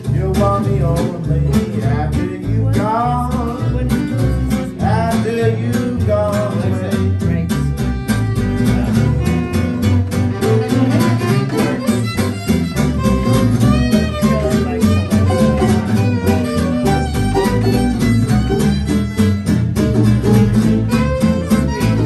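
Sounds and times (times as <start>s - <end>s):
strummed acoustic guitars: 0.0s - 22.0s
fiddle melody: 1.4s - 22.0s.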